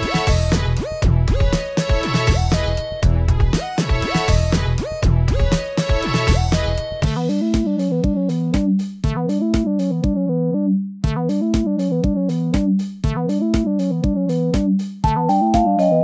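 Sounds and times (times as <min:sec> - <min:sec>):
electro-funk instrumental music: 0:00.0 - 0:10.2, 0:11.0 - 0:16.0.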